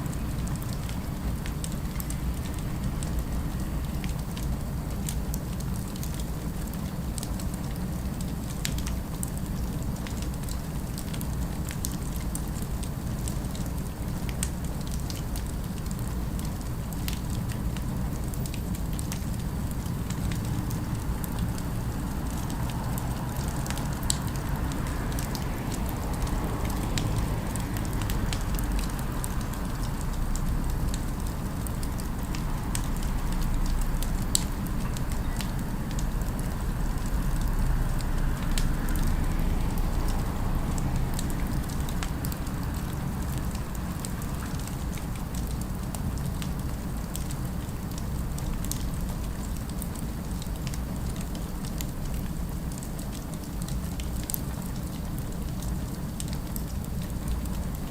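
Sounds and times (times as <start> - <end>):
city ambience rumble: 0.0 - 57.9
fire crackling with sharp pops: 0.2 - 57.9.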